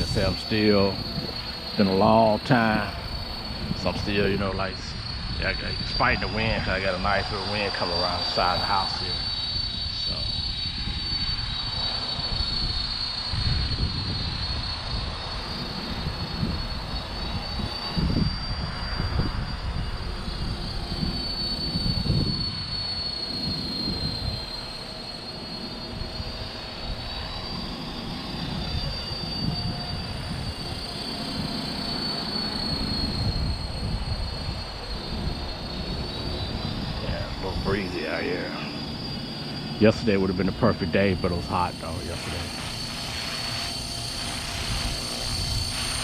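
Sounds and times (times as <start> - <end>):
helicopter motor and rotor whine: 0.0 - 46.0
wind rumbling on microphone: 0.0 - 46.0.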